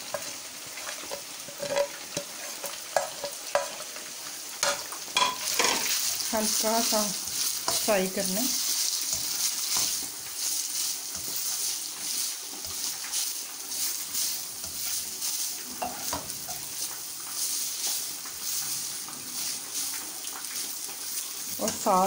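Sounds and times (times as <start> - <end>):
spatula scraping wok: 0.0 - 4.0, 4.6 - 22.0
frying hiss: 0.0 - 22.0.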